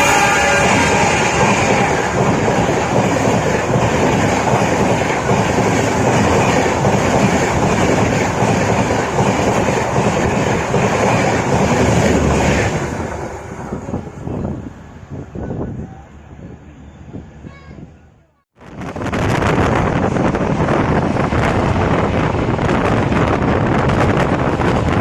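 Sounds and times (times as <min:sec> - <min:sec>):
train wheels rumbling on track: 0:00.0 - 0:17.9, 0:18.6 - 0:25.0.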